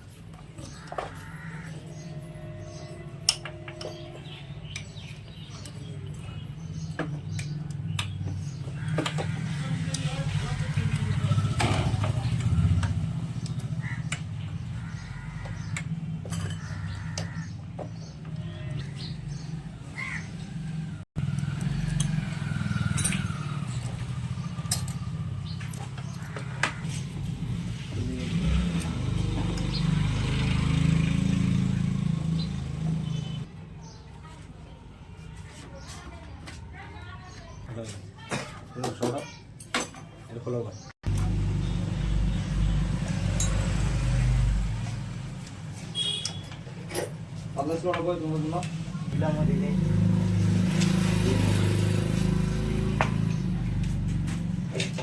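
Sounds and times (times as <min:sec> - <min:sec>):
vehicle engine rumbling: 0:00.0 - 0:39.1, 0:40.4 - 0:55.0.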